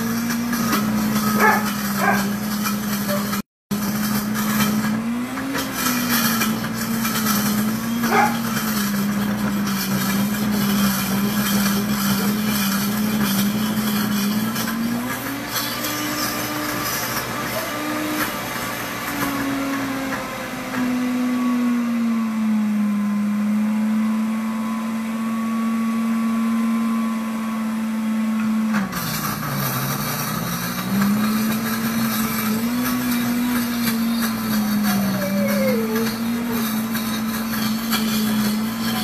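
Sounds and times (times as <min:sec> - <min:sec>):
blender motor running: 0:00.0 - 0:39.0.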